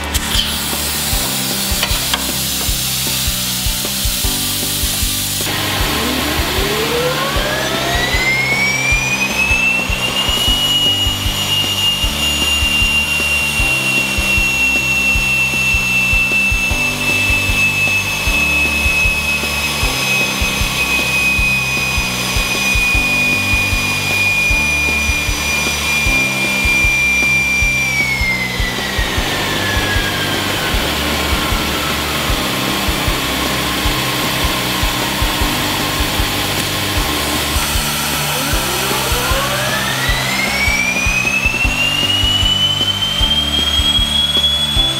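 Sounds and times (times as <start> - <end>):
turbine whine: 0.0 - 44.9.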